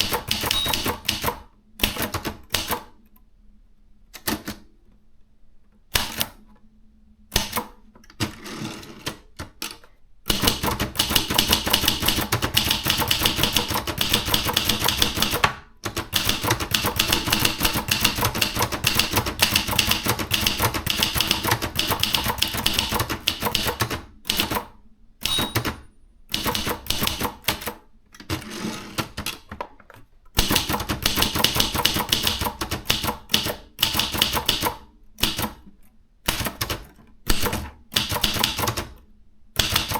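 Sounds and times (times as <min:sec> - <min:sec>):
manual typewriter typing: 0:00.0 - 0:02.9, 0:07.3 - 0:29.6, 0:30.3 - 0:35.7, 0:36.3 - 0:39.0, 0:39.6 - 0:39.9.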